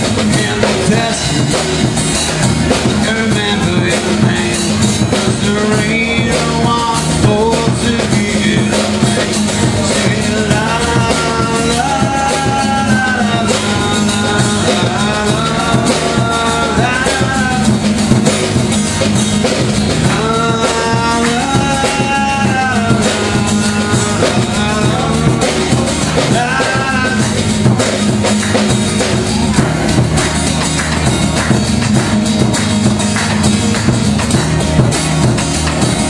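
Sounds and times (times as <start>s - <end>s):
acoustic guitar strumming: 0.0s - 36.0s
drum kit beat: 0.0s - 36.0s.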